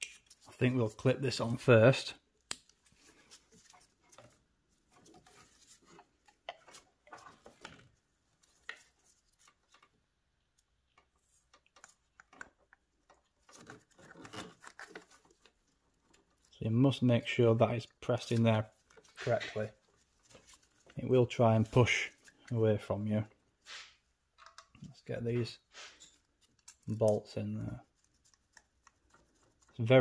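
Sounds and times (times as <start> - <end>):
rustling of gloved hands: 0.0 - 30.0.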